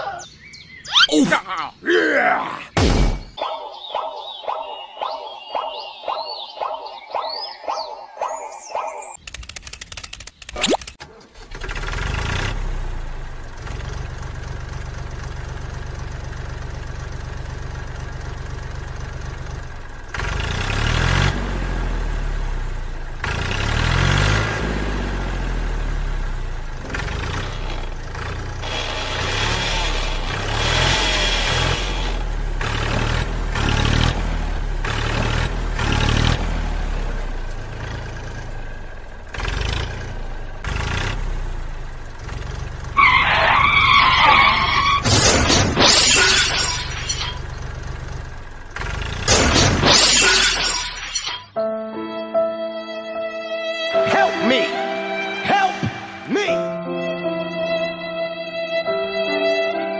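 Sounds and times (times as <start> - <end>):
tractor engine idling and revving: 3.4 - 51.6.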